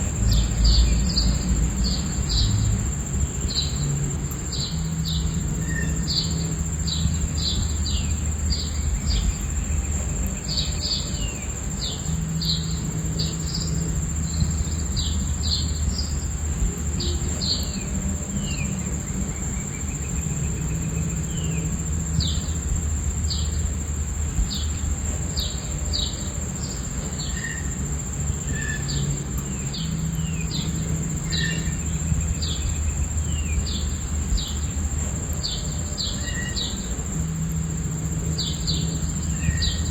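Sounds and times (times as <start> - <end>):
cricket trill: 0.0 - 39.9.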